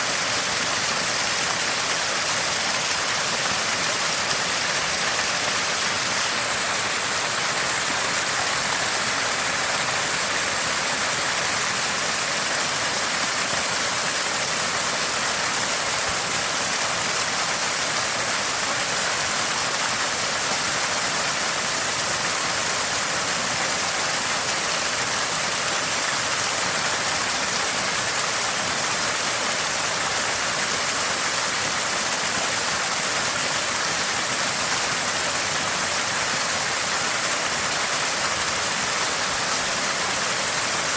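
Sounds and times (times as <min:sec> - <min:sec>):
spring water gushing and gurgling: 0:00.0 - 0:40.9.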